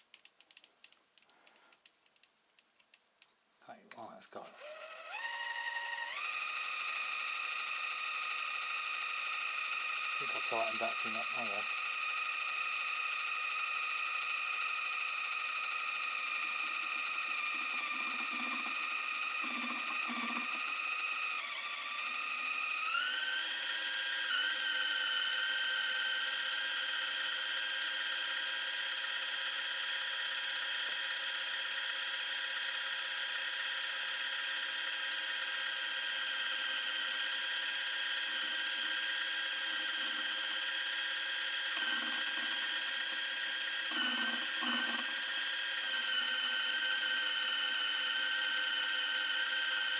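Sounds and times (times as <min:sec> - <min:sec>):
small electric motor whining: 0:04.6 - 0:49.9.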